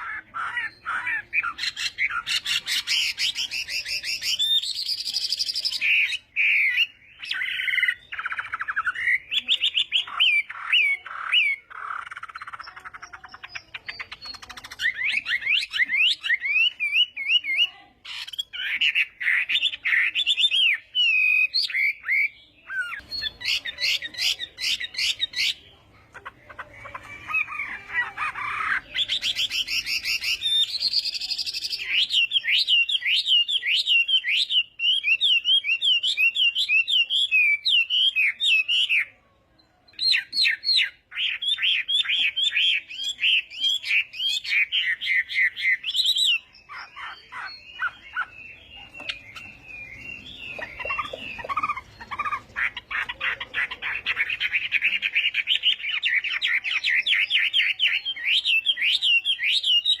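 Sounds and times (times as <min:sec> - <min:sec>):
bird singing whistled notes: 0:01.1 - 0:25.6, 0:28.4 - 0:39.1, 0:39.9 - 1:00.0.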